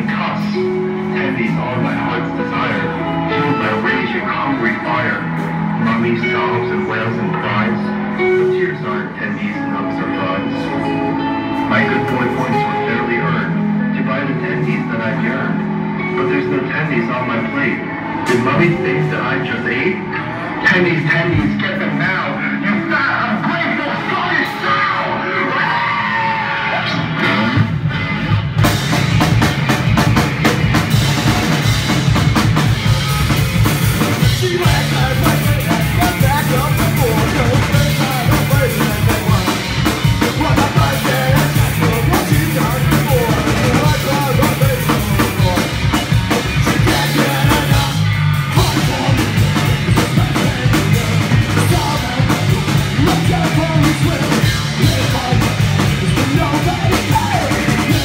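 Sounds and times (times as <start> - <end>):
live punk rock band playing: 0.0 - 58.0.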